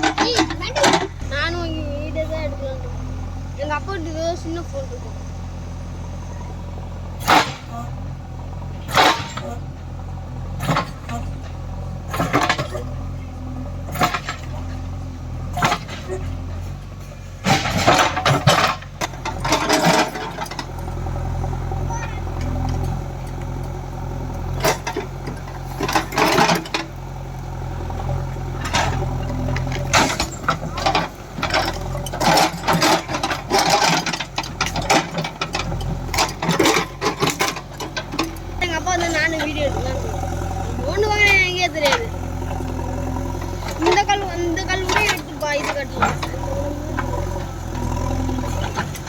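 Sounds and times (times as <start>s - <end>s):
diesel engine running: 0.0s - 49.0s
digger bucket clanks and scrapes: 0.0s - 49.0s.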